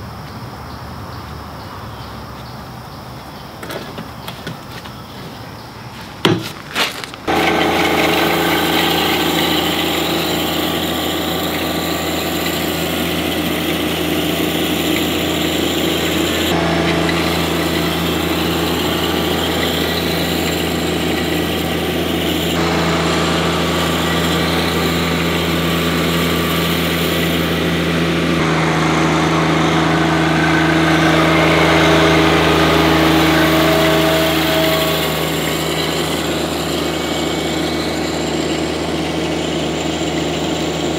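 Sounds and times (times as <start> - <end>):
tractor diesel engine running: 3.6 - 40.9.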